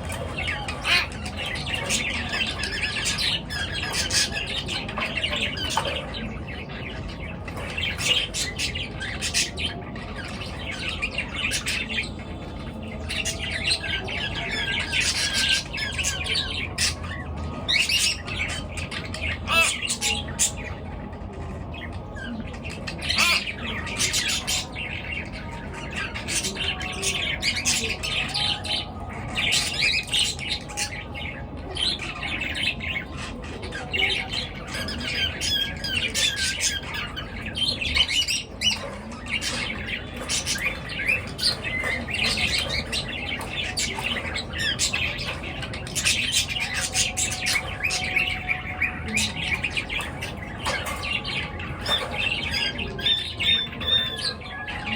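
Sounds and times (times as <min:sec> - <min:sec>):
birds chirping and squawking: 0:00.0 - 0:54.9.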